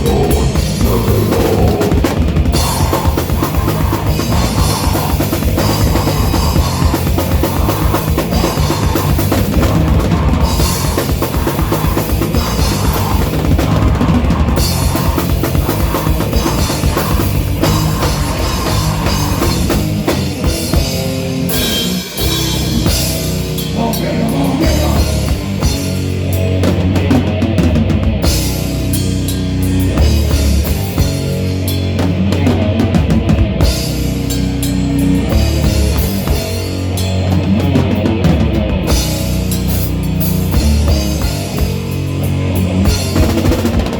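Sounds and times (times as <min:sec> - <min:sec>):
drum kit: 0:00.0 - 0:43.9
heavy rock band playing: 0:00.0 - 0:43.9.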